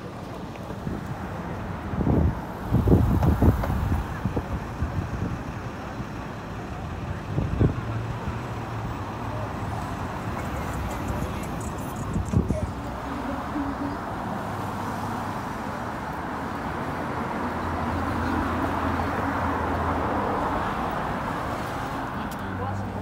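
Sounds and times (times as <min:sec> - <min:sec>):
low vehicle rumble: 0:00.0 - 0:23.0
traffic passing: 0:00.0 - 0:23.0.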